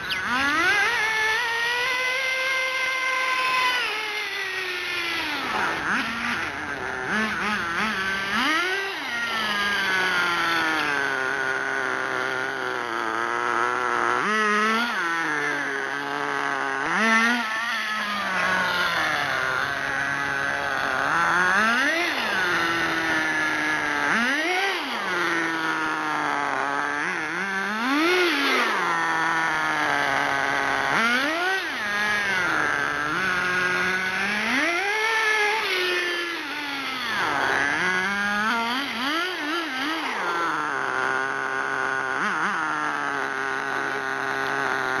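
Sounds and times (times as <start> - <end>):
nitro engine revving and idling: 0.0 - 45.0.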